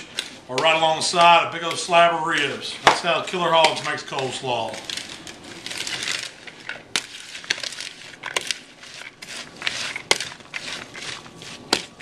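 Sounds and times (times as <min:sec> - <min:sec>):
coleslaw stirred wet rustling: 0:00.0 - 0:12.0.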